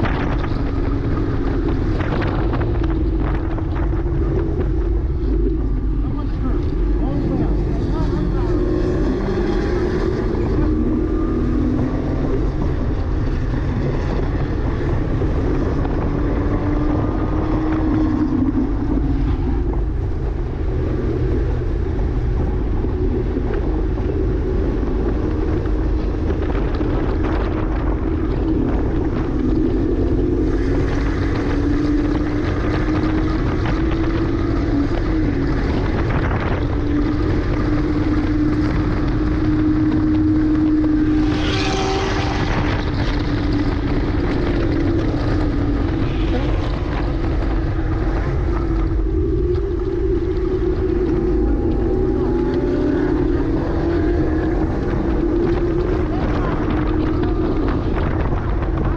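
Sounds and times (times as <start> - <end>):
car engine accelerating: 0.0 - 58.9
wind and road noise: 0.0 - 58.9.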